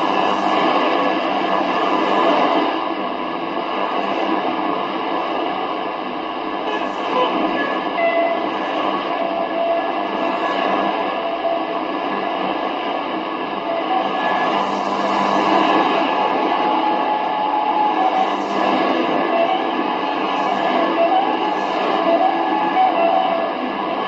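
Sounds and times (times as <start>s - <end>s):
faint steady tones: 0.0s - 24.0s
radio hiss and static: 0.0s - 24.0s.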